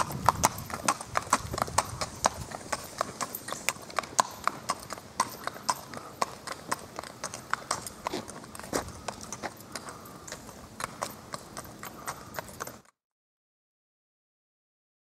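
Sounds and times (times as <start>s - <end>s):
horse hooves on asphalt: 0.0s - 12.9s.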